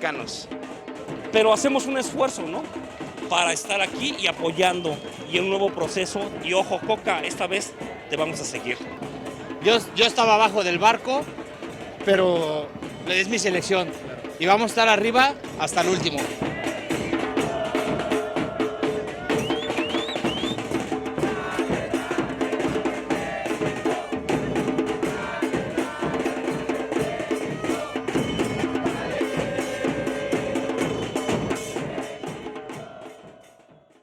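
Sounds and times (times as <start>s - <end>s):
drumming and percussion: 0.0s - 34.0s.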